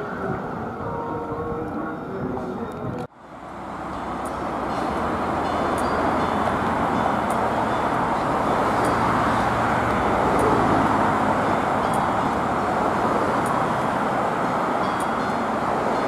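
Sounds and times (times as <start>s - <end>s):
tram running on track: 0.0s - 16.0s
cars driving past: 3.1s - 16.0s.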